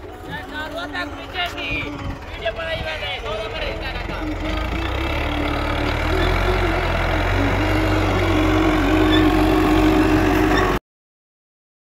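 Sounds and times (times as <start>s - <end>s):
tractor diesel engine running: 0.0s - 10.8s.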